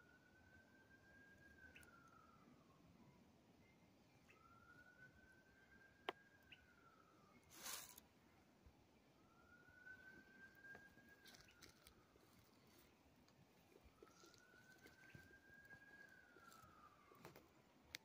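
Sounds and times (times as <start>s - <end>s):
faint siren wailing: 0.0s - 8.2s, 8.8s - 18.0s.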